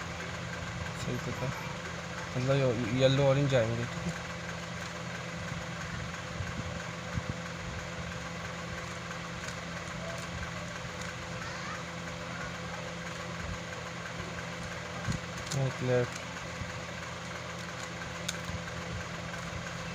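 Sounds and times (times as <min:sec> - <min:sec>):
low mechanical hum: 0:00.0 - 0:19.9.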